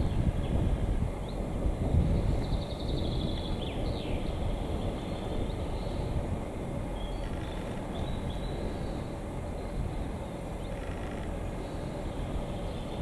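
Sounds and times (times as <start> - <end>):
birds chirping: 0.0 - 6.3, 6.9 - 13.0
diesel locomotive engine rumble: 0.0 - 13.0.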